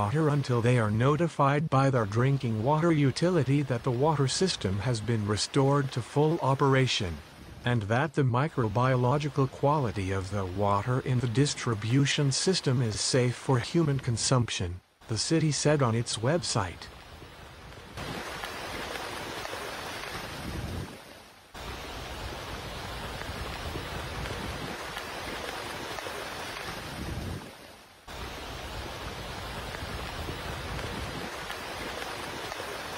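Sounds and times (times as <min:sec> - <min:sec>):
heavy rain and floodwater rushing: 0:00.0 - 0:32.9.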